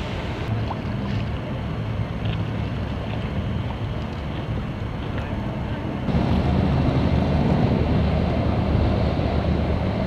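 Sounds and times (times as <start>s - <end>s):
boat engine droning: 0.0s - 10.0s
wind buffeting microphone: 0.0s - 10.0s.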